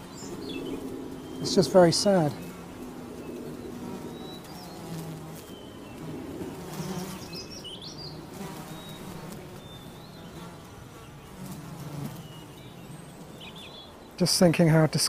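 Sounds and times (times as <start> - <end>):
flies buzzing: 0.0 - 14.8.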